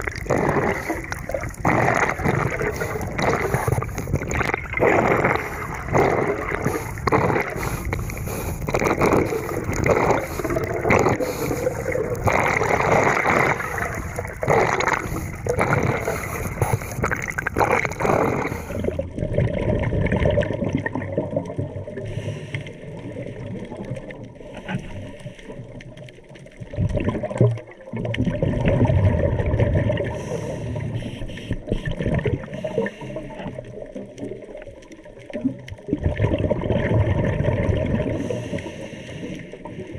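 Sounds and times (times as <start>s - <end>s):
underwater bubbling exhale: 0.0s - 39.9s.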